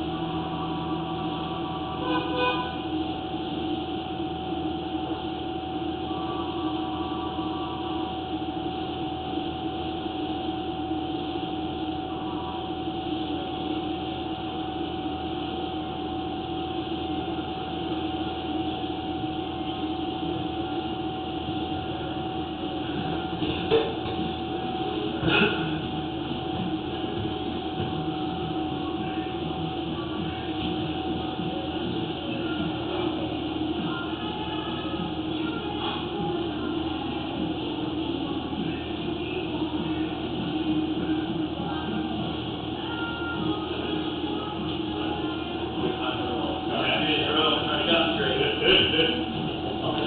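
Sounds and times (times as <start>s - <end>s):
machine drone humming: 0.0s - 50.0s.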